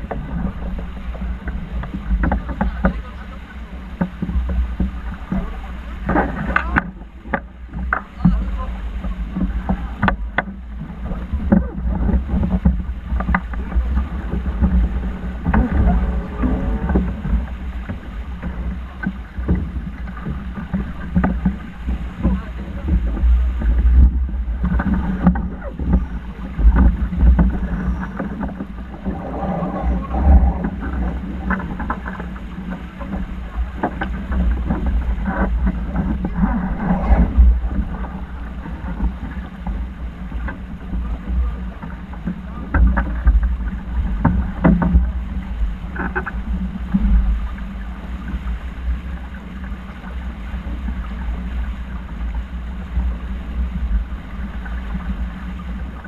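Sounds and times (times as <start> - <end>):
low engine drone: 0.0 - 56.0
water noise: 0.0 - 56.0
wind buffeting microphone: 0.0 - 56.0.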